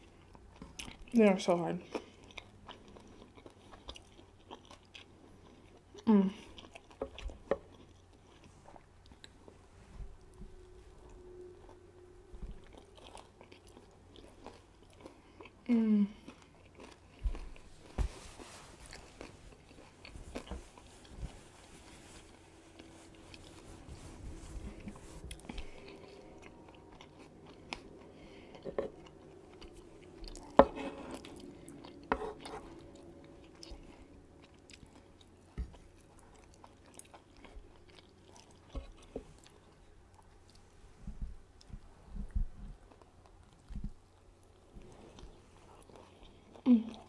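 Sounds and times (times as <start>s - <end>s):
person chewing burger: 1.8s - 9.6s, 12.5s - 23.8s, 24.6s - 40.7s, 41.3s - 47.0s.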